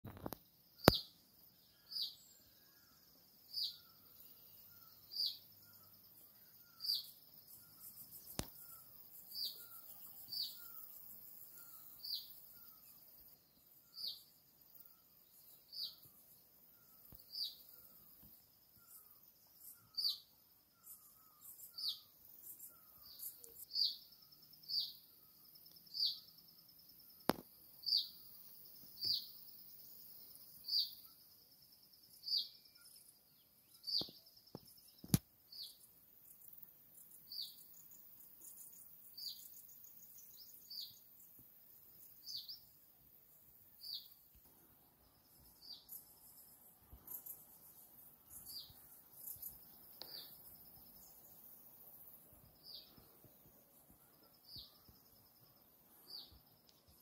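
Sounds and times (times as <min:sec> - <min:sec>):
high insect buzz: 0:00.1 - 0:25.0, 0:33.8 - 0:57.0
faint low chirps: 0:00.1 - 0:57.0.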